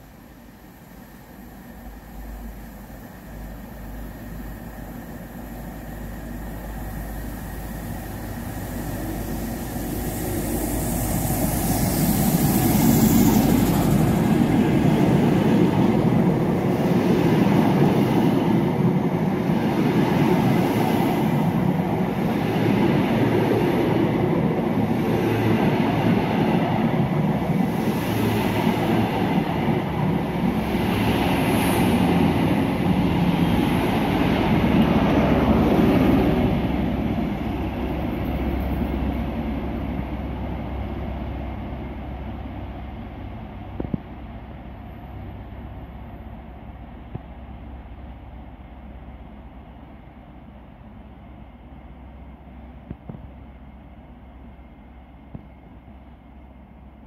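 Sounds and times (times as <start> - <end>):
train passing: 0.0 - 57.0
wheels rumbling on rail: 0.0 - 57.0.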